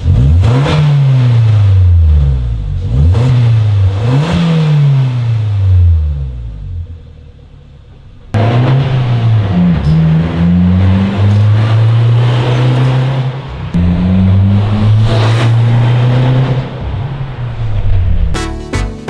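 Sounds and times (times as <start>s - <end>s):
car engine and exhaust running: 0.0s - 18.4s.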